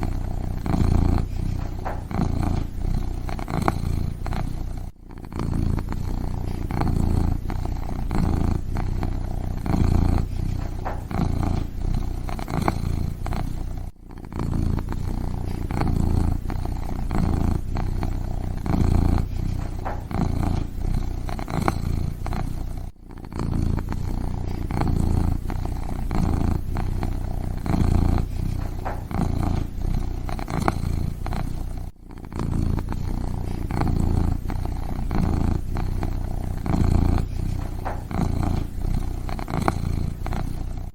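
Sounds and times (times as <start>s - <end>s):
kitten purring: 0.0s - 40.9s.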